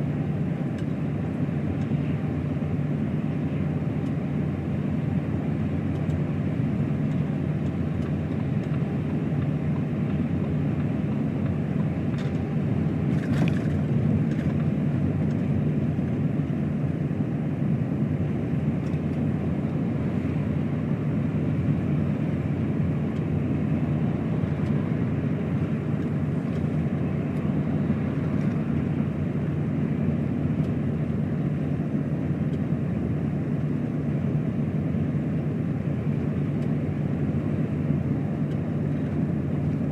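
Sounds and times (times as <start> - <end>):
truck driving on wet road: 0.0 - 39.9.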